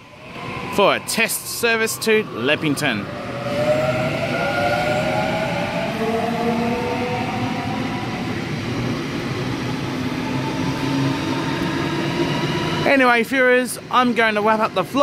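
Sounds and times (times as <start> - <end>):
electric traction whine: 0.0 - 13.6
train wheels rumbling on rail: 0.0 - 15.0.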